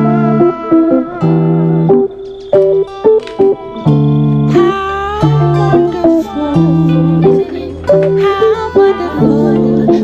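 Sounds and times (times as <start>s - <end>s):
guitar playing plucked notes: 0.0s - 10.0s.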